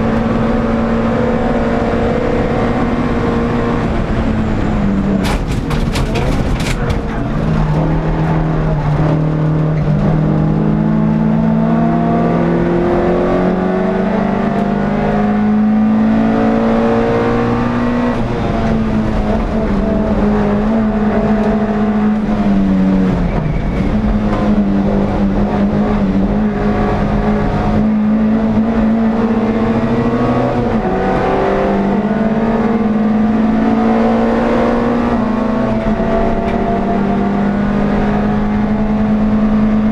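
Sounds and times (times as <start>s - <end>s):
race engine revving: 0.0s - 39.9s.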